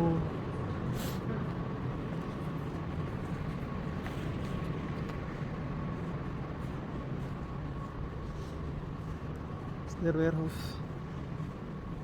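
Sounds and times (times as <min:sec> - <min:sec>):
low store interior hum: 0:00.0 - 0:12.0.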